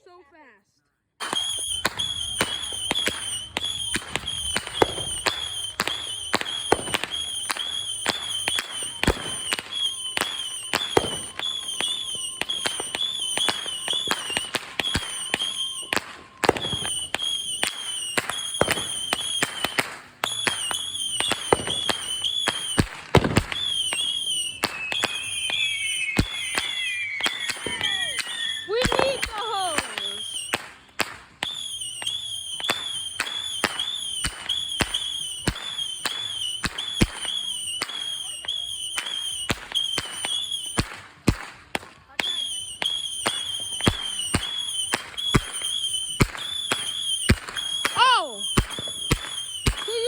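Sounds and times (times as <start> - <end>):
fireworks cracking and banging: 1.2 - 50.0
high wavering firework whistle: 1.2 - 50.0.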